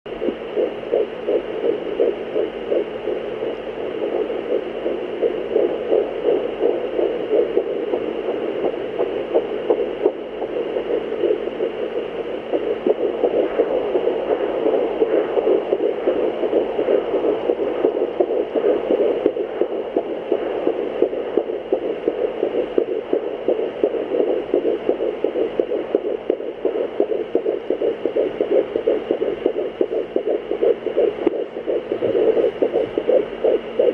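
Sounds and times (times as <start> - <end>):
rapid whooshing heartbeat pulse: 0.1 - 33.9
steady hum: 0.1 - 33.9.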